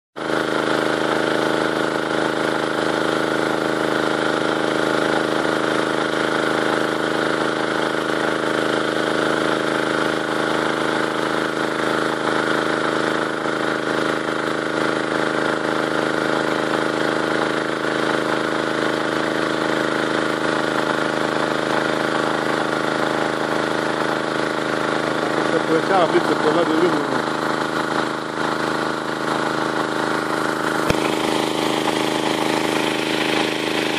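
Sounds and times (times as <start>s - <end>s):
water pump petrol engine running: 0.2s - 33.9s.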